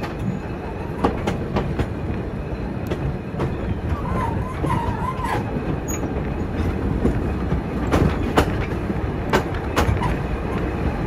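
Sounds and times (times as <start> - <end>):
train wheels rumbling: 0.0 - 11.0
wheels clicking over rail joints: 0.0 - 11.0.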